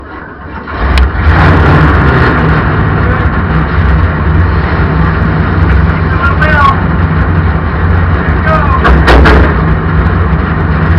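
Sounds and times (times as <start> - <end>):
race car engines running loud: 0.0 - 10.9.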